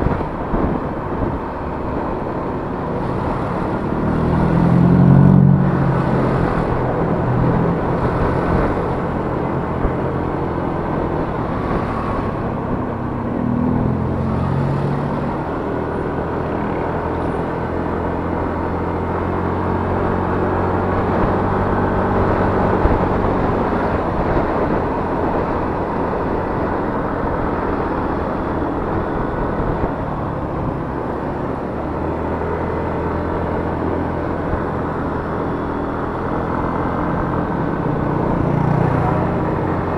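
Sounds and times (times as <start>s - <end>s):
road noise: 0.0s - 39.9s
scooter engine running: 0.0s - 39.9s.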